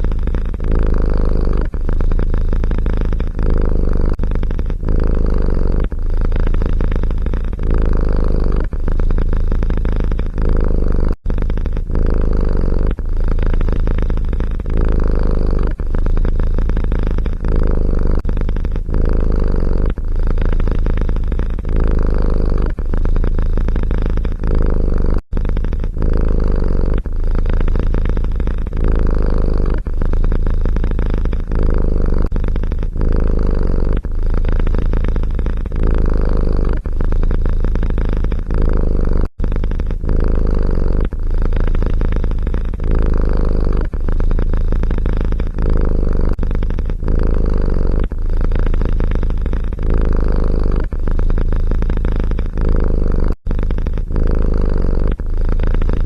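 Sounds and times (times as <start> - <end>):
cat purring loudly: 0.0 - 56.0.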